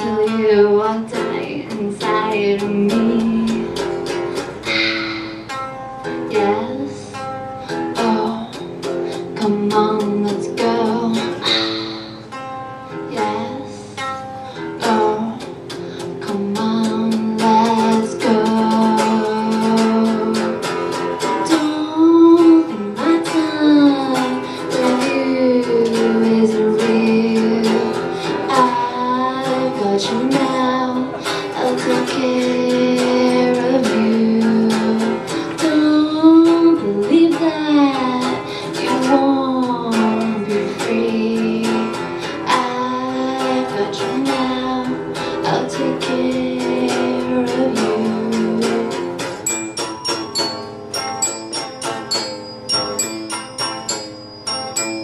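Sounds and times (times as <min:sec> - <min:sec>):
guitar strumming: 0:00.0 - 0:55.0
person singing: 0:00.0 - 0:55.0.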